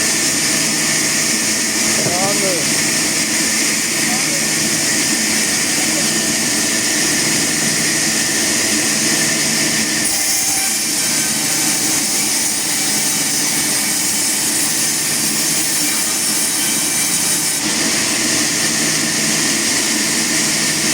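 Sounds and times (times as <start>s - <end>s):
sawmill machinery running: 0.0s - 20.9s.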